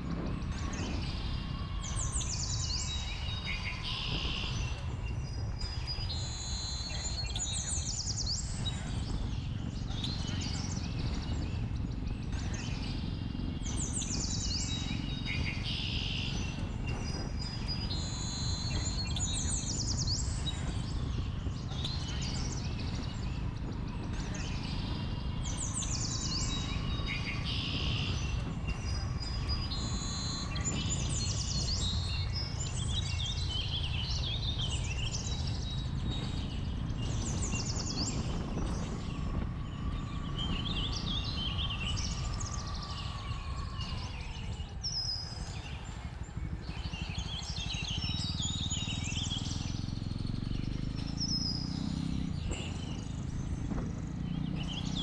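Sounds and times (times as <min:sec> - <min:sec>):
birds singing and calling: 0:00.0 - 0:55.0
motorcycle engine rumble: 0:00.0 - 0:55.0
wind noise: 0:00.0 - 0:55.0.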